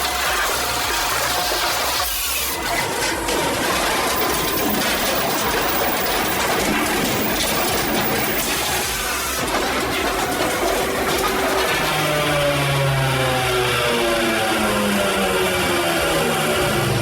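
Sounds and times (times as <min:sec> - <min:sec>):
wood-cutting machinery running: 0:00.0 - 0:17.0.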